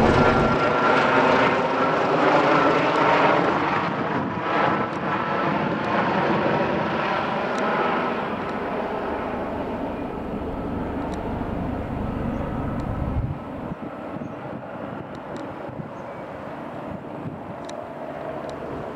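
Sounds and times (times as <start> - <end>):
helicopter flying overhead: 0.0 - 18.9.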